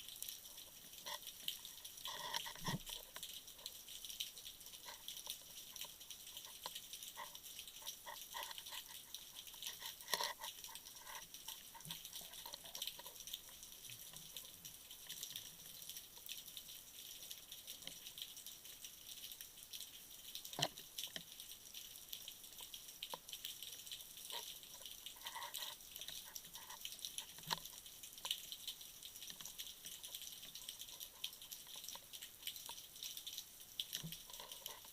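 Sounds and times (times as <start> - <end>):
underwater crackling and clicks: 0.0 - 34.9
water gurgles: 0.0 - 34.9.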